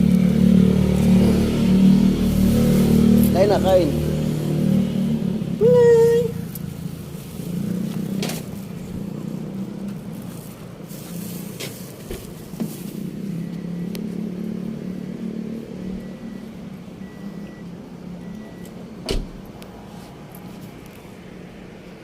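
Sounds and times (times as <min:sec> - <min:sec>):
vehicle engine running: 0:00.0 - 0:18.4.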